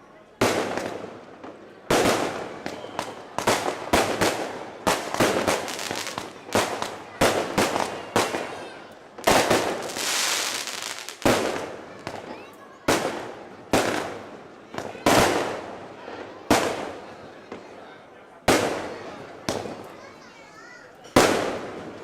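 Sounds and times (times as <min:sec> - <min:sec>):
fireworks banging and crackling: 0:00.2 - 0:20.4, 0:21.0 - 0:22.0.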